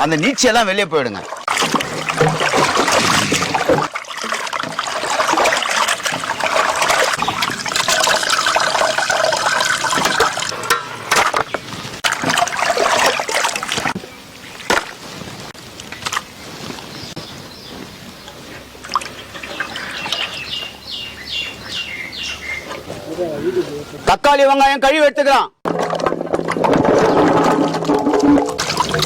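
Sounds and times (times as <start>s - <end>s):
water splashing and trickling: 0.0s - 23.0s, 25.7s - 29.0s.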